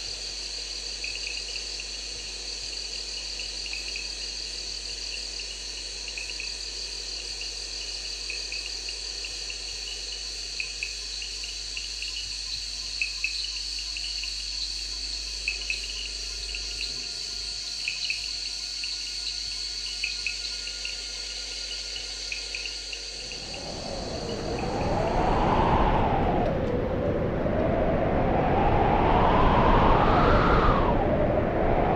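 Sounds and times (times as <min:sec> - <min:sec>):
insects trilling: 0:00.0 - 0:31.9
sharp insect chirps: 0:00.1 - 0:26.4.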